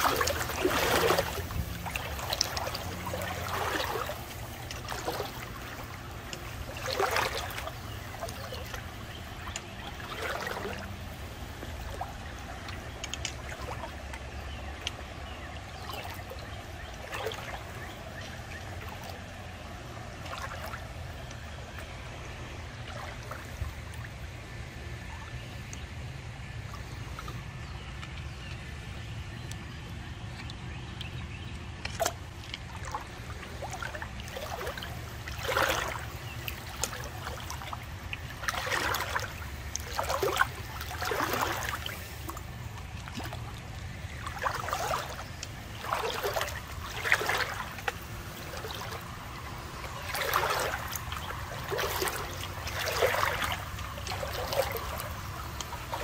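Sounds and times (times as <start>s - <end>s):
footsteps splashing through water: 0.0s - 19.5s, 20.1s - 21.9s, 26.7s - 56.0s
water trickling in a creek: 0.0s - 56.0s.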